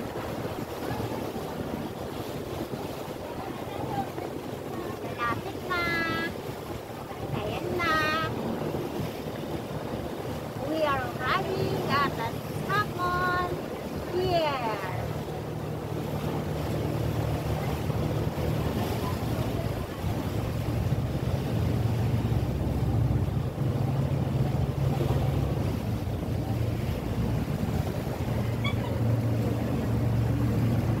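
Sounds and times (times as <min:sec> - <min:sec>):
boat engine drone: 0:00.0 - 0:31.0
water rushing: 0:00.0 - 0:31.0
wind: 0:00.0 - 0:31.0.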